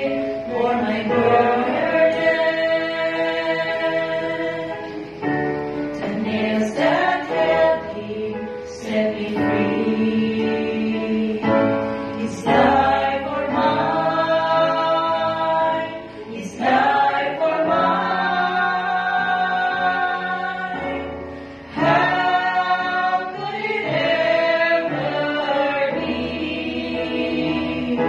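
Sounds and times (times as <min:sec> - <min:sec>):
vocal quartet singing gospel: 0:00.0 - 0:28.0.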